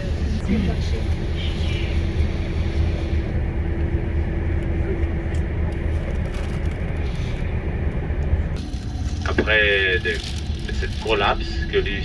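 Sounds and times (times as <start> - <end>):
coach engine drone: 0.0 - 12.0
road noise: 0.0 - 12.0.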